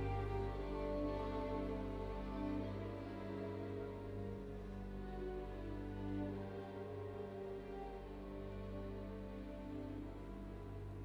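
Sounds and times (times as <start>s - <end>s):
slow string music: 0.0s - 11.0s.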